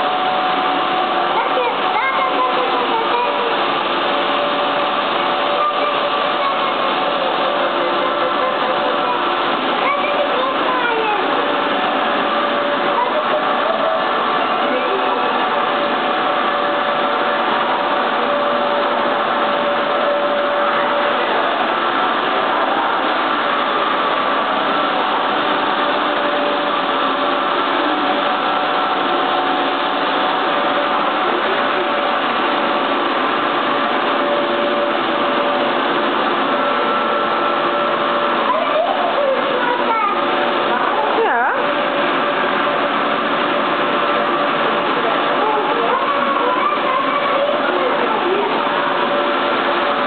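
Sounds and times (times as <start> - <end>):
rushing room noise: 0.0 - 50.0.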